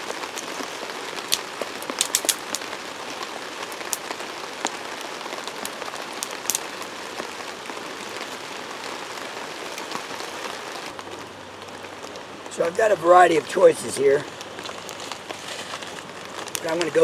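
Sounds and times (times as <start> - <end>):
campfire crackling and popping: 0.0 - 17.0
flowing creek: 0.0 - 17.0.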